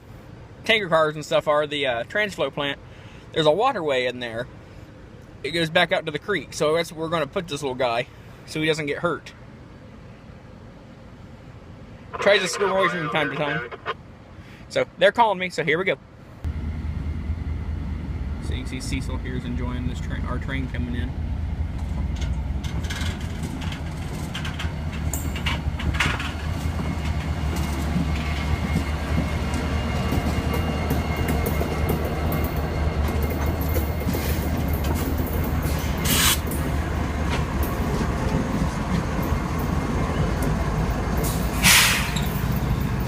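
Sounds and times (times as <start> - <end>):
diesel locomotive engine rumble: 0.0 - 14.8, 16.0 - 43.0.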